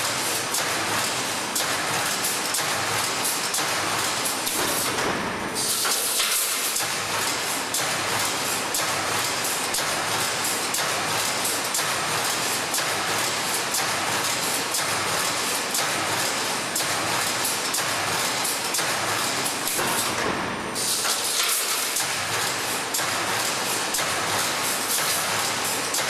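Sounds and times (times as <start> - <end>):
welding machine running hiss: 0.0 - 26.0.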